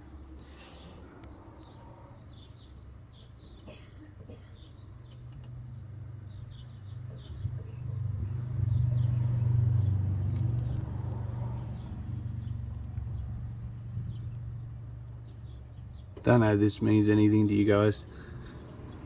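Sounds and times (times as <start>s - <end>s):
small birds chirping: 0.0s - 19.0s
vehicle engine hum: 0.0s - 19.0s.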